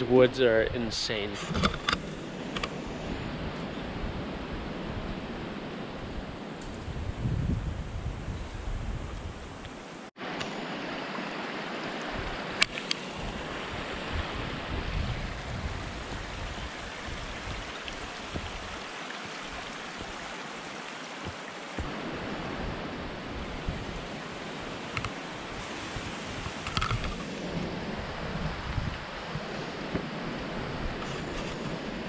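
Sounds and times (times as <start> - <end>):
wind rushing on microphone: 0.0 - 9.8, 12.0 - 20.4, 21.8 - 32.0.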